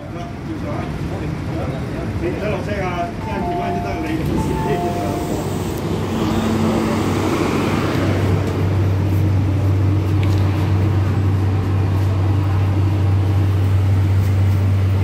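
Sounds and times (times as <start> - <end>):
subway car low hum: 0.0 - 15.0.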